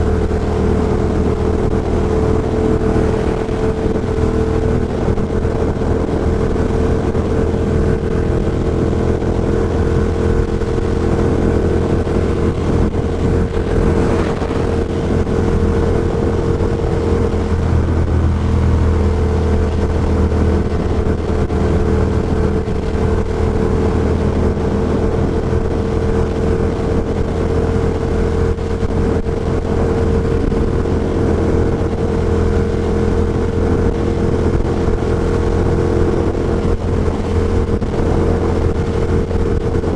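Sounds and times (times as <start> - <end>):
motorcycle engine at road speed: 0.0 - 39.9
wind noise: 0.0 - 39.9.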